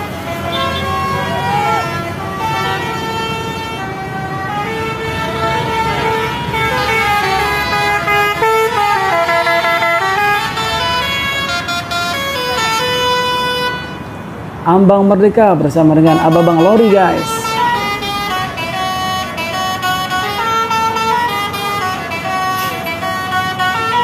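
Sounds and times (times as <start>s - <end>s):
musical truck horns blaring: 0.0s - 14.7s, 15.8s - 24.0s
low traffic rumble: 0.0s - 24.0s.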